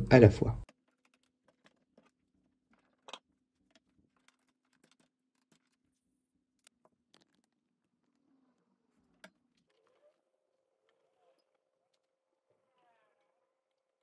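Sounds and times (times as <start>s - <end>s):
cables and plugs clicking: 0.6s - 5.9s, 6.5s - 13.0s.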